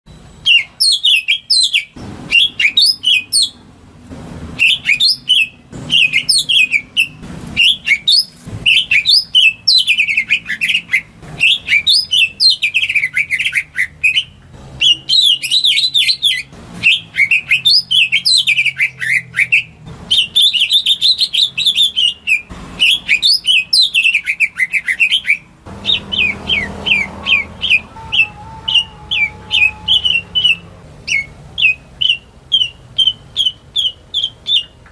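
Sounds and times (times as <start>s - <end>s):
bird singing chirps and trills: 0.1s - 3.6s, 4.6s - 34.9s.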